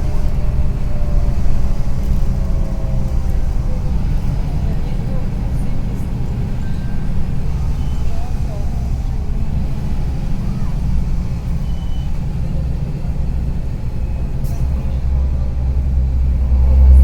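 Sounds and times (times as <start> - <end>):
bus engine rattling rumble: 0.0 - 17.0.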